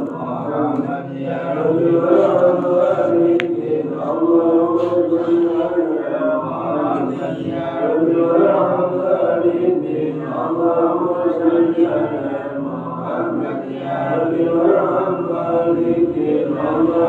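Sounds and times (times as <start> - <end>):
man's husky voice leading recitation: 0.0 - 17.0
men chanting in unison: 0.0 - 17.0.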